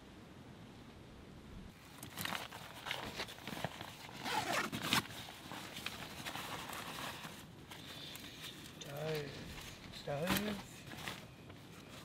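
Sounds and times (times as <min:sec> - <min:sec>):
scratchy rustling handling noise: 0:01.8 - 0:12.0.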